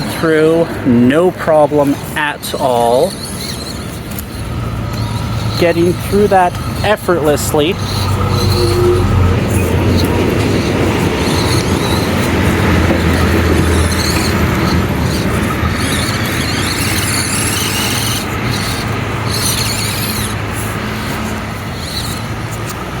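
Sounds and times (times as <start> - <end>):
loud steady noise: 0.0 - 23.0
small electric motor whining: 0.0 - 23.0.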